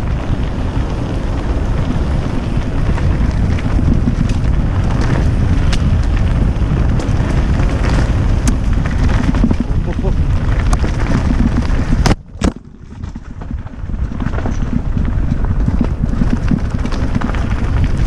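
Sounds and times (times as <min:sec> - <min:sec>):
bike tyres rolling over dirt: 0:00.0 - 0:18.0
wind buffeting microphone: 0:00.0 - 0:18.0.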